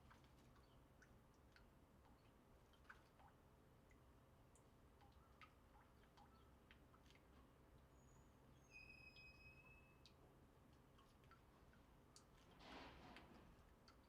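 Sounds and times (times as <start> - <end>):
faint garden ambience: 0.0 - 14.0.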